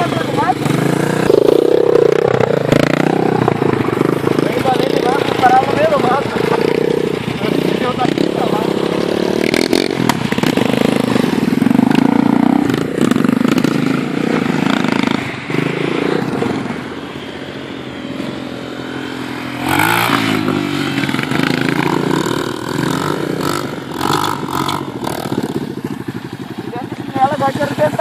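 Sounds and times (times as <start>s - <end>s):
off-road engine revving: 0.0s - 28.0s.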